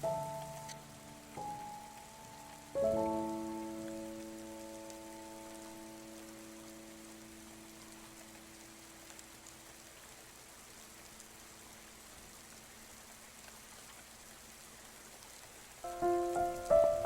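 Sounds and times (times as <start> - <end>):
faint rain patter: 0.0 - 17.0.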